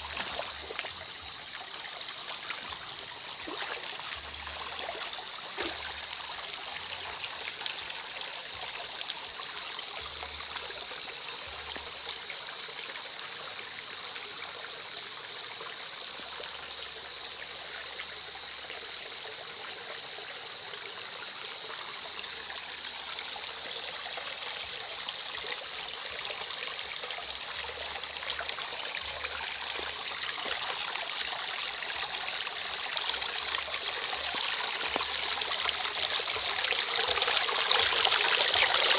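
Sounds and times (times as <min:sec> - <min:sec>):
creek flowing and trickling: 0:00.0 - 0:38.9.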